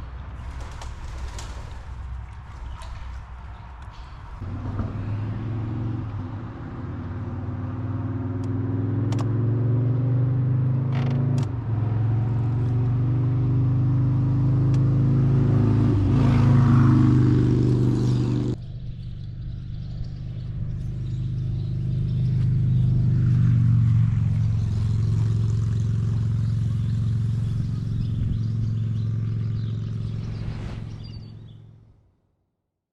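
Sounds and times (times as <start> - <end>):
vehicle engine droning: 0.0 - 32.0.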